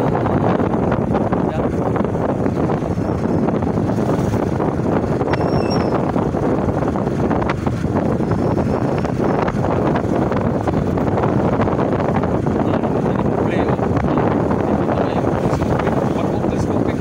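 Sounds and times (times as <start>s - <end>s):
motorcycle engine: 0.0s - 17.0s
road noise: 0.0s - 17.0s
wind rushing over microphone: 0.0s - 17.0s.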